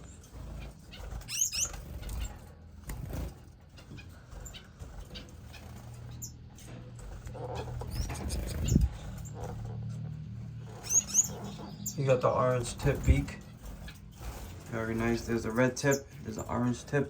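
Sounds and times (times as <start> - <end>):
finches chirping: 0.0 - 17.0
steady low hum: 0.0 - 17.0
wing flutters and rustles: 0.0 - 17.0.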